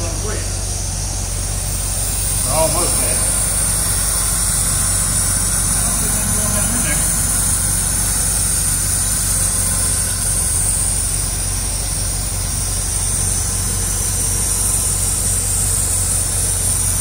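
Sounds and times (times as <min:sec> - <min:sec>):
car engine idling: 0:00.0 - 0:17.0
steady high hiss: 0:00.0 - 0:17.0.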